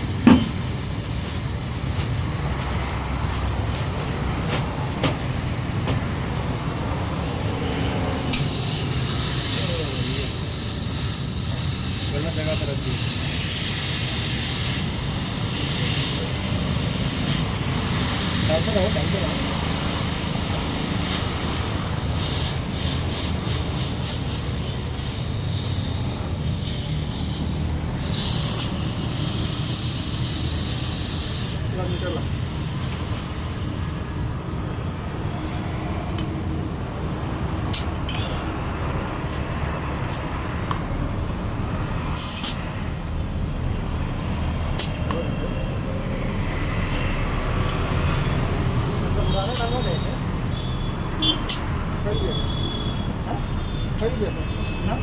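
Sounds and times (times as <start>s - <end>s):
compressed air hissing: 0.0s - 45.2s, 45.9s - 55.0s
low rumble of vehicles: 0.0s - 55.0s.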